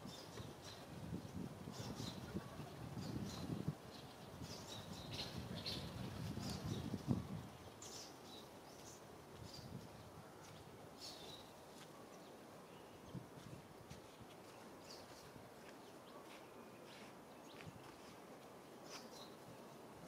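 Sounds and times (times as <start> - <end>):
faint outdoor ambience: 0.0 - 20.0.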